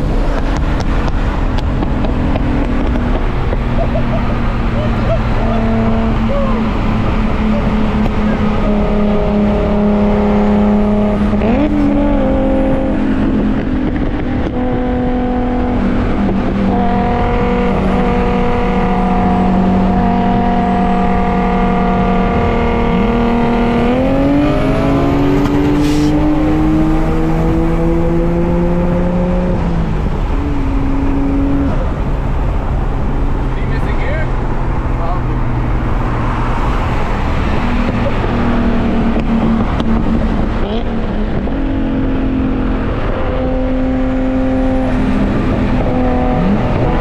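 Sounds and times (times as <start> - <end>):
car engine pulling: 0.0 - 47.0
road noise: 0.0 - 47.0.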